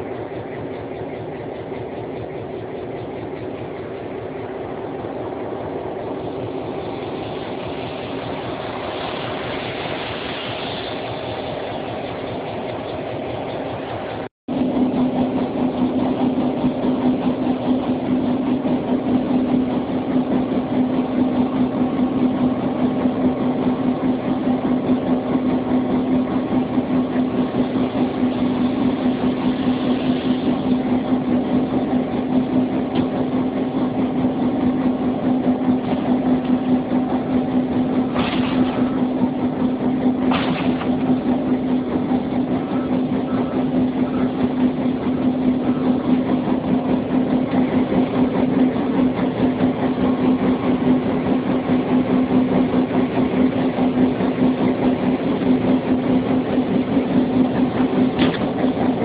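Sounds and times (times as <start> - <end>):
diesel locomotive idling: 0.0 - 59.0.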